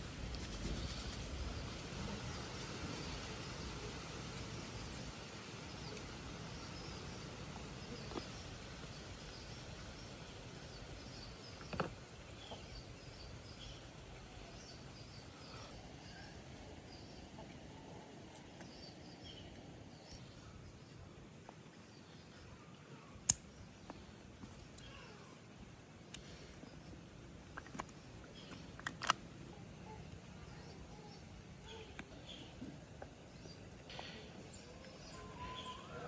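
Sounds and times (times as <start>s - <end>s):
small birds chirping: 0.4s - 21.2s, 21.8s - 36.0s.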